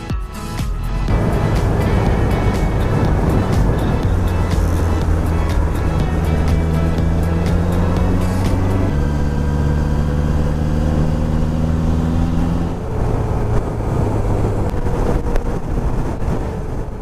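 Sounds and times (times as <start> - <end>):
motorcycle engine running: 1.0 - 17.0
wind noise: 1.0 - 17.0.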